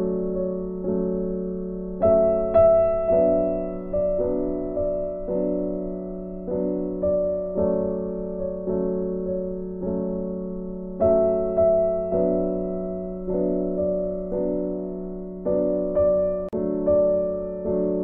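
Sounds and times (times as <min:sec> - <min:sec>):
slow soft piano music: 0:00.0 - 0:18.0.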